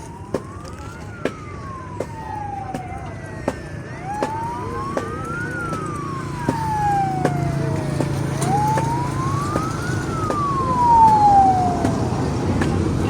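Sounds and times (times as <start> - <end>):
wailing siren: 0.0 - 13.0.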